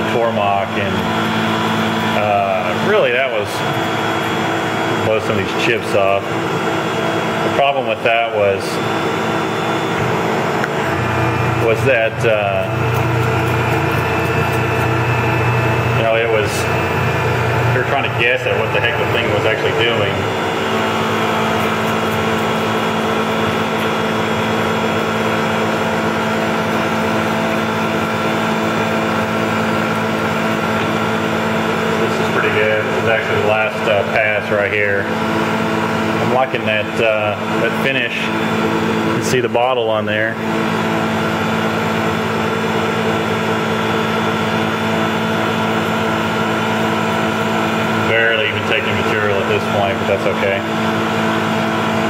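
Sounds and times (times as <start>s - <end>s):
milling machine drone: 0.0s - 52.0s.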